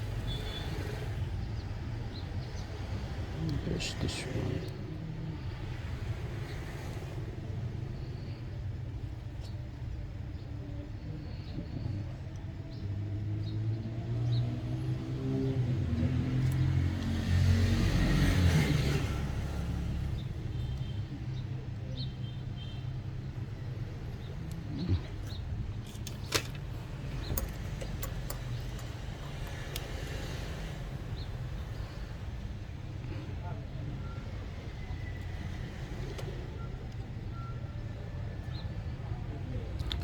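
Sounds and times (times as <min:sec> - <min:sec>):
vehicle engine rumble: 0:00.0 - 0:40.0.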